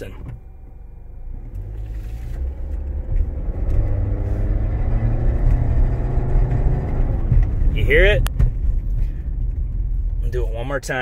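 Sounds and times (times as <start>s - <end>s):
car engine accelerating: 0.0s - 11.0s
rattle from underneath car: 1.5s - 11.0s.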